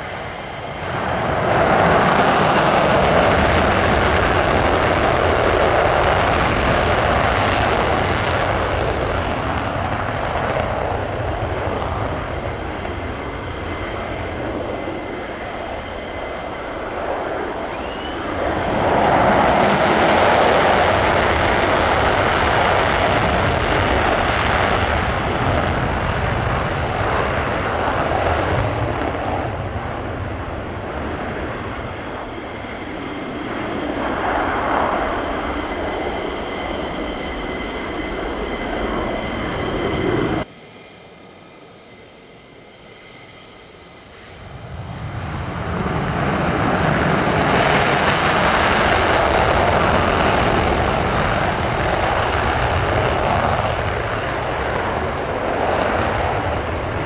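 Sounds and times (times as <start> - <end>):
jet engines in afterburner: 0.0 - 57.0.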